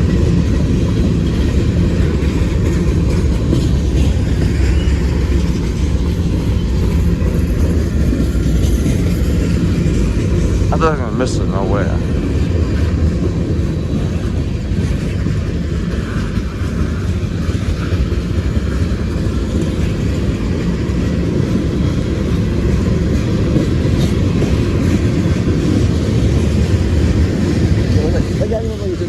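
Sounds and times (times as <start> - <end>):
freight train rolling over rails: 0.0 - 29.0.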